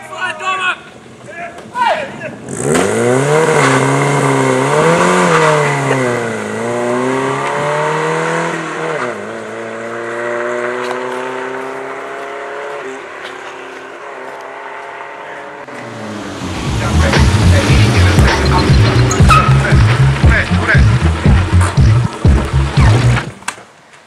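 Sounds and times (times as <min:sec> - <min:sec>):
car engine pulling away: 0:02.4 - 0:23.4.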